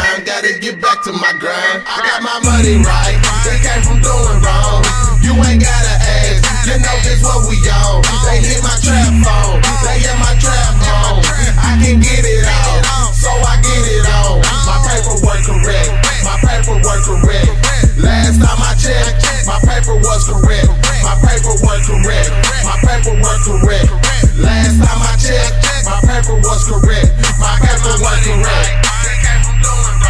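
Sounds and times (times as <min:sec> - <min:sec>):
trap beat with deep bass: 0:00.0 - 0:30.0.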